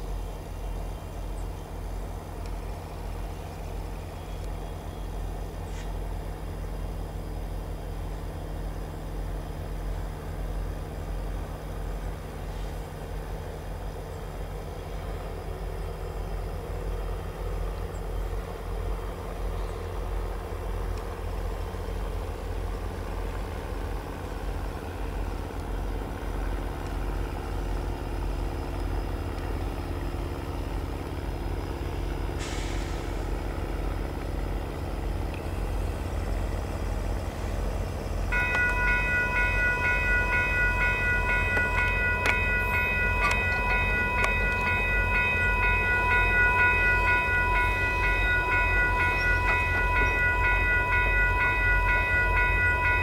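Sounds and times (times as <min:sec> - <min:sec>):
diesel locomotive engines droning: 0:00.0 - 0:53.0.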